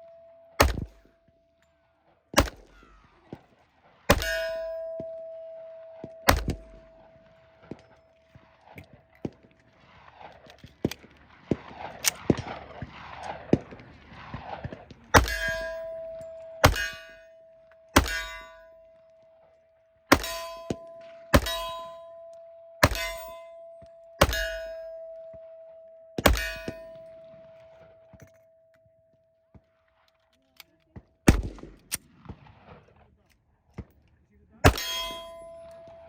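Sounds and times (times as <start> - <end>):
shots ringing steel target: 0.0 - 1.2, 2.4 - 28.4, 31.3 - 32.6, 34.6 - 36.0.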